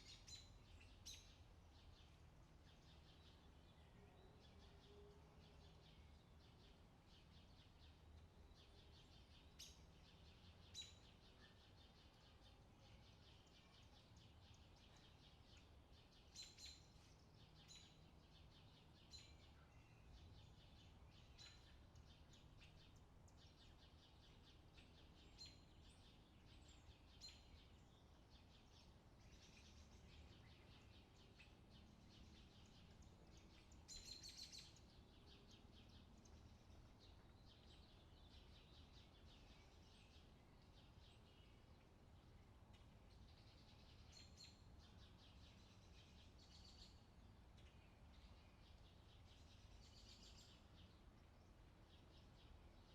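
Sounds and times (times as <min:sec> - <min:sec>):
low background hum: 0:00.0 - 0:52.9.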